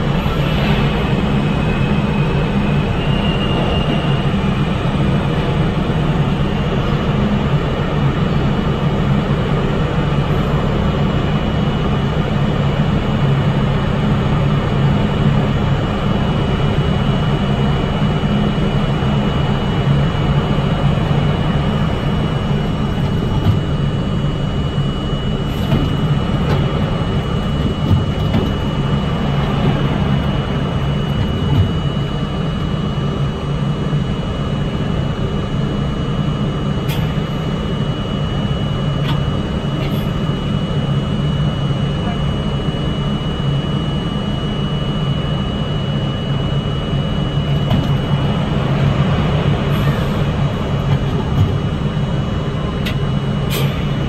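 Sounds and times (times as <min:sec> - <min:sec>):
subway car equipment hum: 0:00.0 - 0:54.0.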